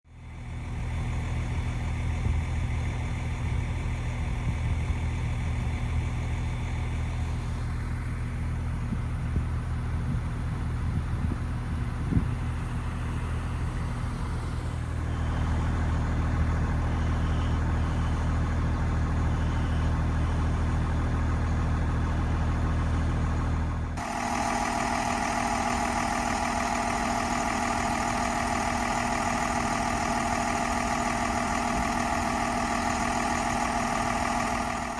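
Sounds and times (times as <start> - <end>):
vehicle engine idling: 0.1 - 34.9.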